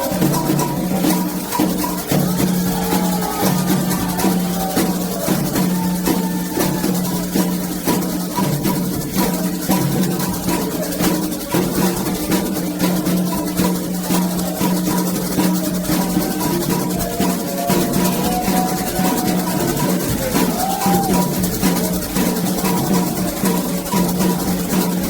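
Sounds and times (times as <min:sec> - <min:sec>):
hand drums beating: 0:00.0 - 0:25.0
voices singing: 0:00.0 - 0:25.0.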